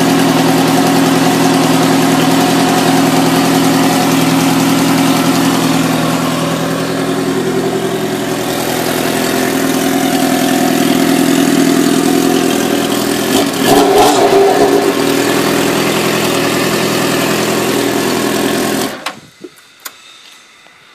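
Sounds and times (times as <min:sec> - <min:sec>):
engine ticking: 0:00.0 - 0:20.5
motorcycle engine idling: 0:00.0 - 0:20.5.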